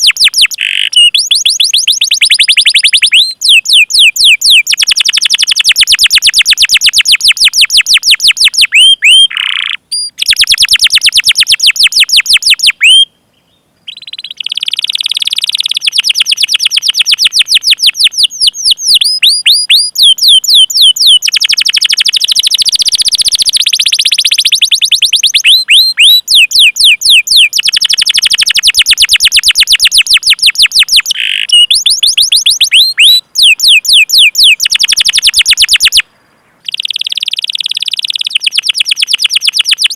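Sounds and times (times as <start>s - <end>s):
canary singing: 0.0s - 36.0s, 36.6s - 39.9s.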